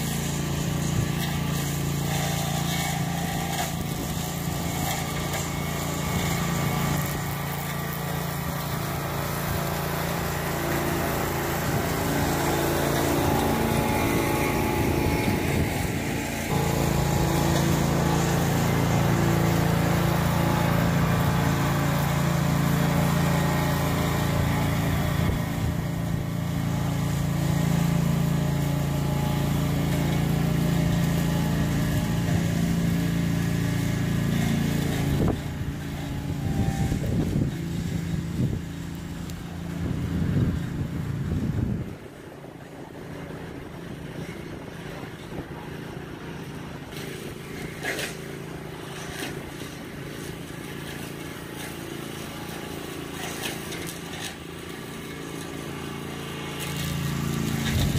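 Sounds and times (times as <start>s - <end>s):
small mower engine running: 0.0s - 57.9s.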